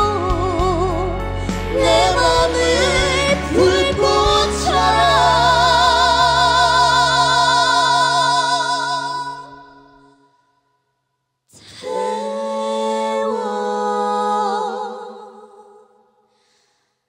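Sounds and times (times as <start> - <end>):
singers in harmony: 0.0 - 10.2, 11.6 - 16.1.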